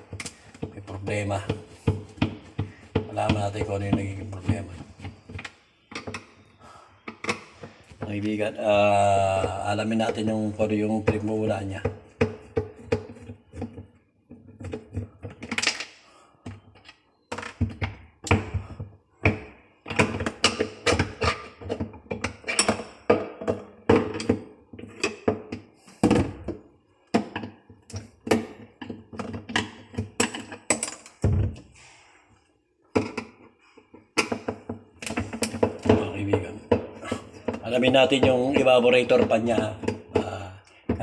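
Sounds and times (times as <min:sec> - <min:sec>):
knocks on plastic fridge parts: 0:00.0 - 0:06.3, 0:07.1 - 0:15.7, 0:17.3 - 0:31.6, 0:34.1 - 0:41.0.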